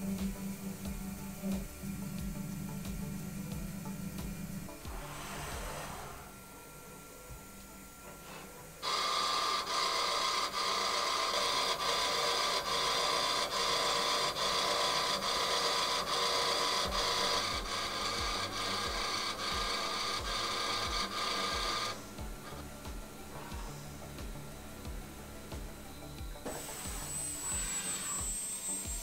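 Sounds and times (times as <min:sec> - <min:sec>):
engraving machine whirring: 0:00.0 - 0:06.6, 0:08.0 - 0:29.0.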